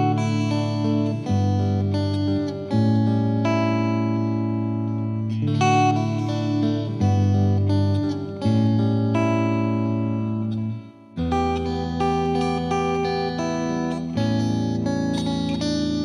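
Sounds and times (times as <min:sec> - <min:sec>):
guitar plucking slow notes: 0:00.0 - 0:16.0.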